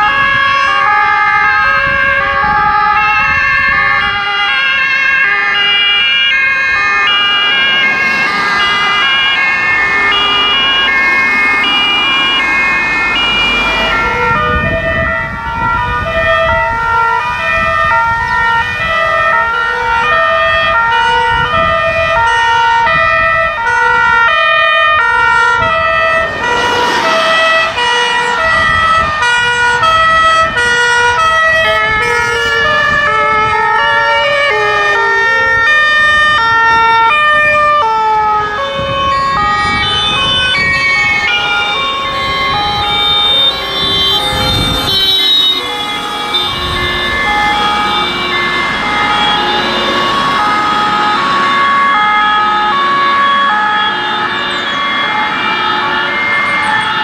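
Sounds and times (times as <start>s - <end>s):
two-tone sirens: 0.0s - 57.0s
vehicles passing: 0.0s - 57.0s.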